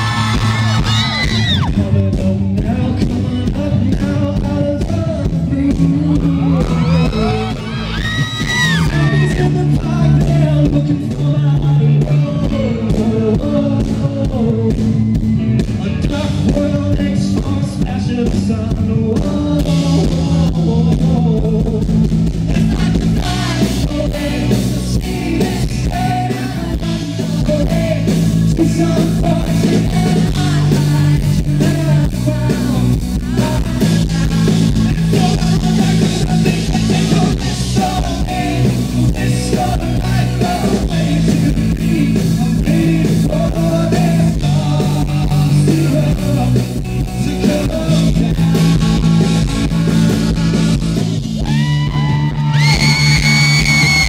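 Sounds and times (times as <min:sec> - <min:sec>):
bass line: 0:00.0 - 0:54.0
electric guitar: 0:00.0 - 0:54.0
steady drums: 0:00.0 - 0:54.0.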